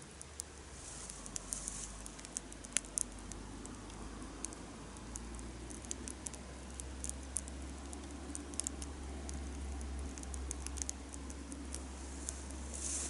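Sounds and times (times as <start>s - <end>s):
campfire crackling and popping: 0.0s - 13.0s
low steady hum: 0.0s - 13.0s.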